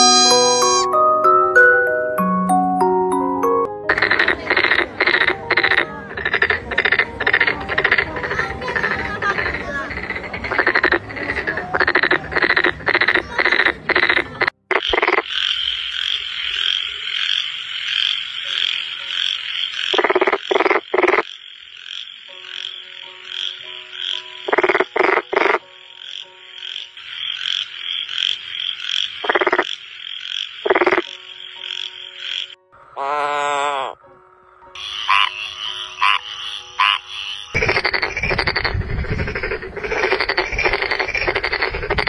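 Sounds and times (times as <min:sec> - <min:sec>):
frogs croaking: 0:03.9 - 0:42.0.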